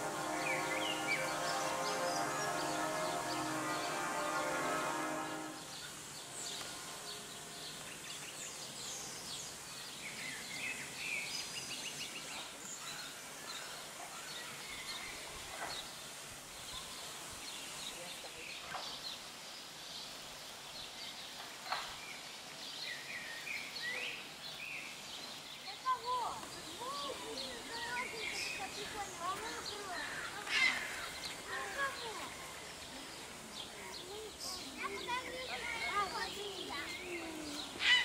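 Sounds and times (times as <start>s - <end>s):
steady background hiss: 0.0s - 38.0s
small birds chirping and trilling: 5.8s - 38.0s.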